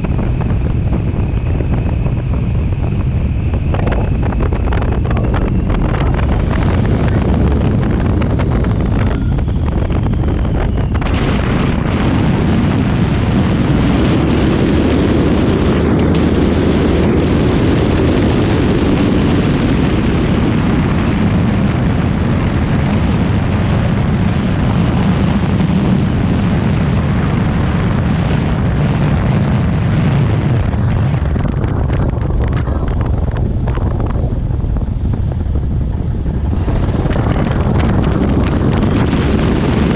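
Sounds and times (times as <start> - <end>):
aircraft engine and propeller: 0.0 - 39.9
rushing air: 0.0 - 39.9.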